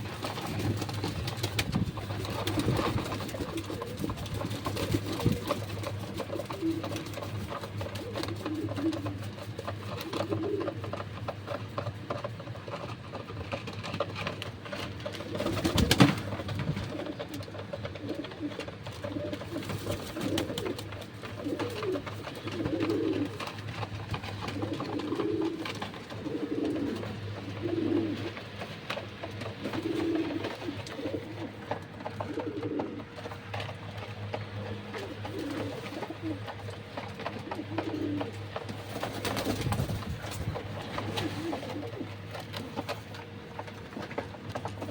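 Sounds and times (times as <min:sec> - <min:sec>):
noisy rustle: 0:00.0 - 0:31.9, 0:38.4 - 0:43.0
pigeons cooing: 0:00.0 - 0:44.9.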